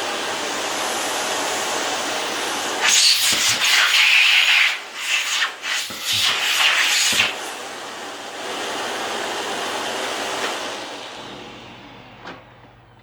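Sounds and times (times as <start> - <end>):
vacuum cleaner air hissing: 0.0 - 12.2.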